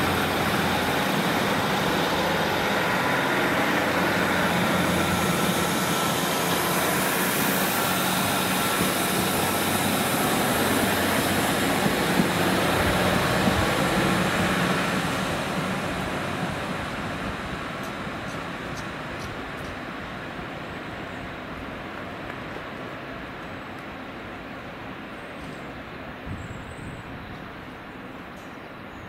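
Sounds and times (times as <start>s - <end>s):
train wheels on rail: 0.0s - 24.6s
diesel train engine rumble: 0.0s - 29.0s.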